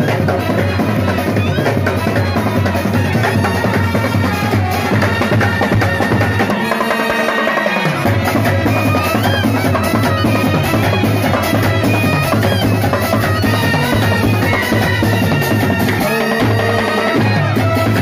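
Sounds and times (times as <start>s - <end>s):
brass band playing: 0.0s - 18.0s
drums beating steady rhythm: 0.0s - 18.0s.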